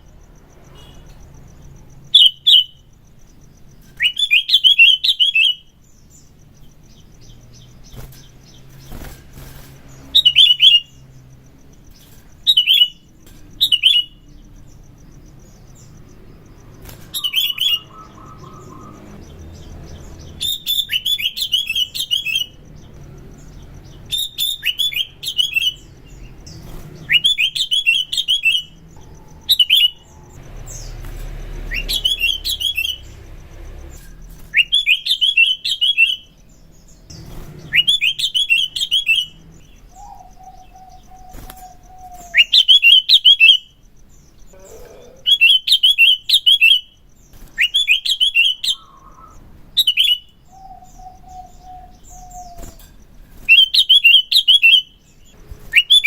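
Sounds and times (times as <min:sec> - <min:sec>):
bird singing chattering notes: 0:00.0 - 0:56.0.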